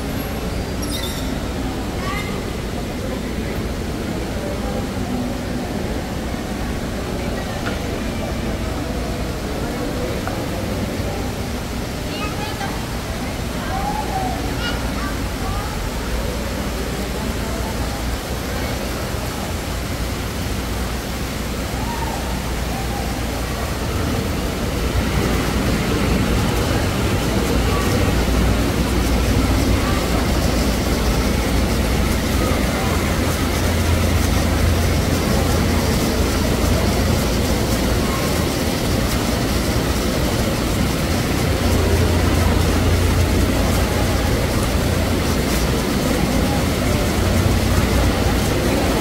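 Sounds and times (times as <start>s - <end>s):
faint voices: 0.0s - 49.0s
fountain water splashing: 0.0s - 49.0s.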